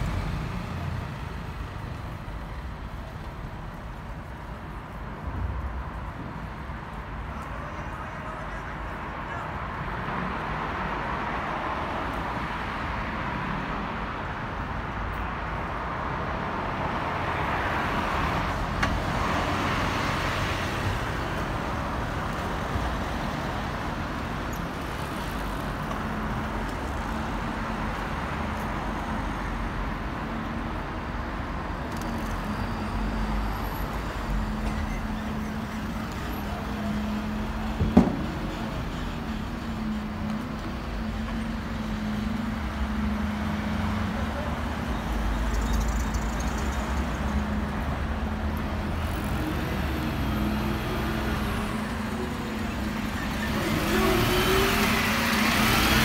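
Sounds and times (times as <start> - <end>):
traffic rumble of engines and tyres: 0.0 - 56.0.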